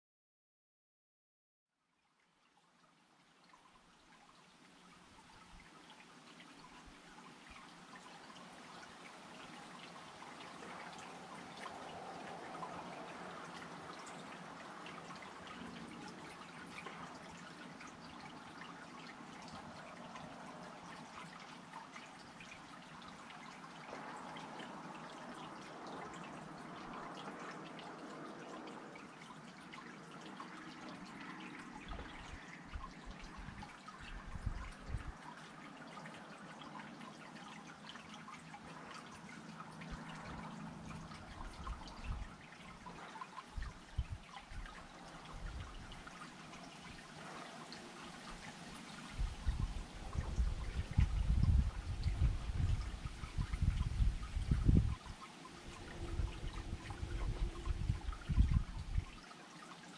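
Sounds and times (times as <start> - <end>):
water dripping and trickling: 1.9 - 59.9.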